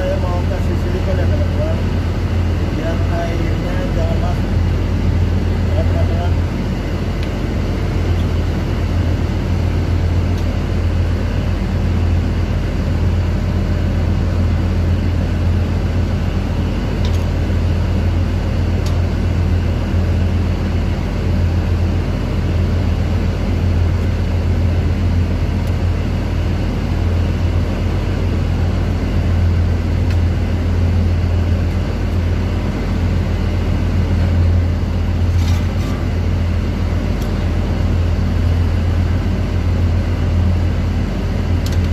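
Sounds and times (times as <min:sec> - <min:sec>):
low machinery drone: 0:00.0 - 0:41.9.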